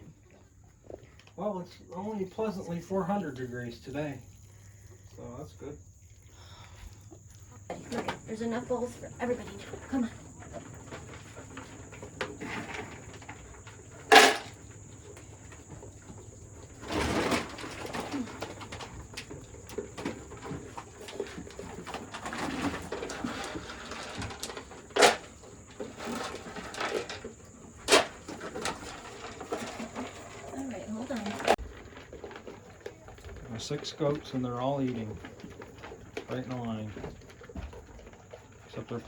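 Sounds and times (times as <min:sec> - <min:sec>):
goats eating rustle: 0:00.0 - 0:39.0.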